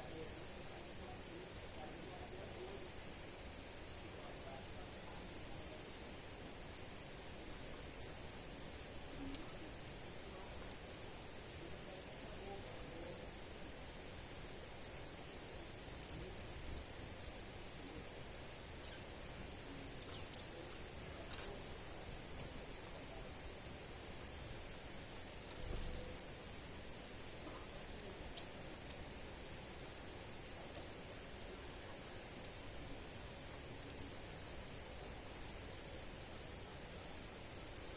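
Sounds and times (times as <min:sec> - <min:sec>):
small bird chirping: 0:00.0 - 0:10.8, 0:11.5 - 0:29.2, 0:30.3 - 0:32.6, 0:33.3 - 0:37.9
faint background hiss: 0:00.0 - 0:37.9.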